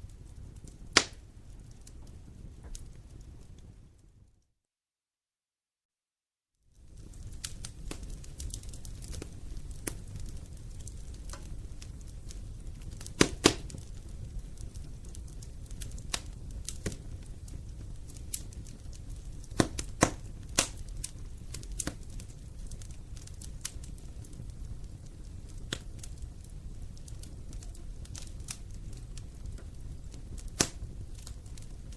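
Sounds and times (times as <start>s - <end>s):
loud pops from fire: 0.0s - 3.8s, 6.8s - 31.9s
wood fire crackling: 0.0s - 4.3s, 6.7s - 31.9s.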